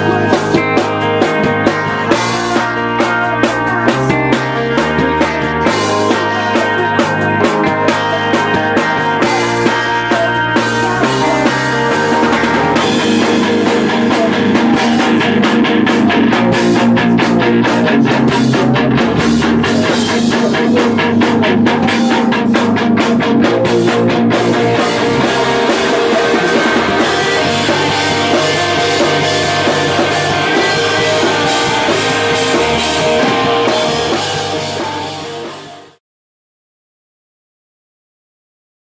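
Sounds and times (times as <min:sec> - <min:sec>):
rock music with guitar and drums: 0:00.0 - 0:36.0.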